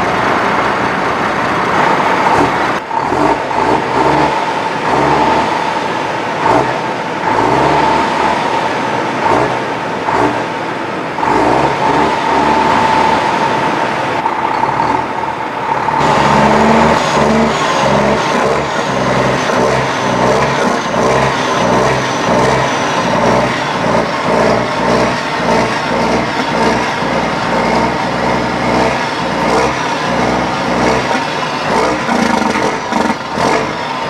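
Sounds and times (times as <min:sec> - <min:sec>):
truck engine revving: 0:00.0 - 0:34.0.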